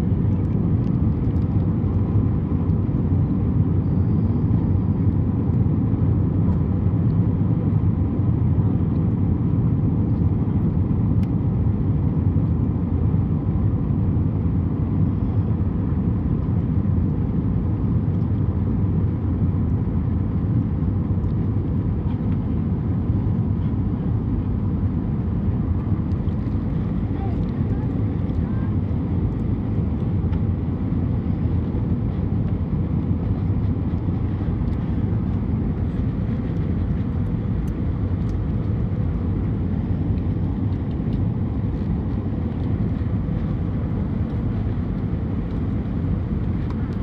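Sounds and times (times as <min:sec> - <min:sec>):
airliner cabin engine rumble: 0:00.0 - 0:47.0.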